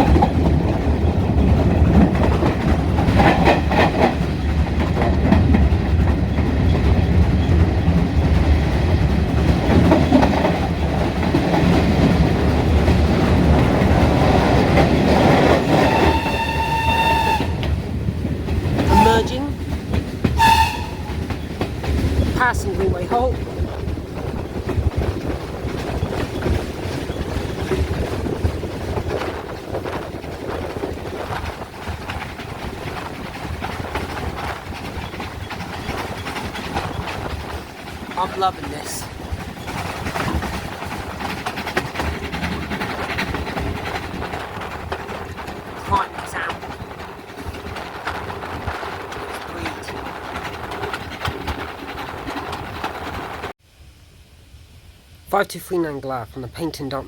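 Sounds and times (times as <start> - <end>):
rail and wheel noise: 0.0 - 57.0
steam train running past: 0.0 - 57.0.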